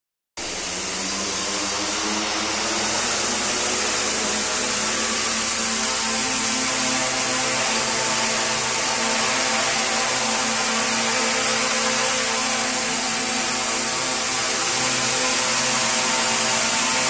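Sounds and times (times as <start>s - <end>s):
quadcopter motors buzzing: 0.4s - 17.0s.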